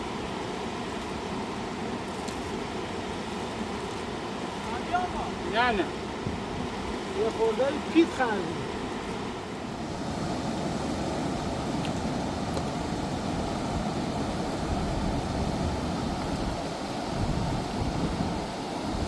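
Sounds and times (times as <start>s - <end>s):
river rushing: 0.0s - 19.0s
wind gusting on microphone: 0.0s - 19.0s.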